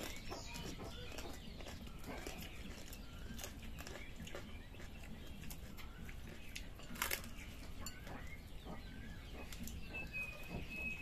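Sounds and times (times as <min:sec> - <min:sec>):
birds chirping and clucking: 0:00.0 - 0:11.0.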